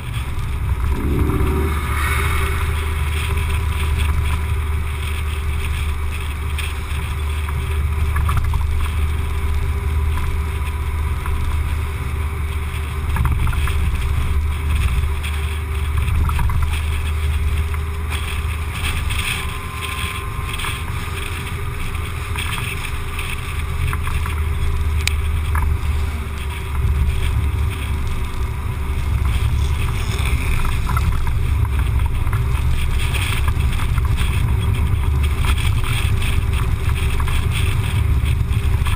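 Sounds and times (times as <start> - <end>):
wind buffeting: 0.0 - 8.0, 11.6 - 38.9
car engine and tyre noise: 0.0 - 38.9
road noise: 0.0 - 38.9.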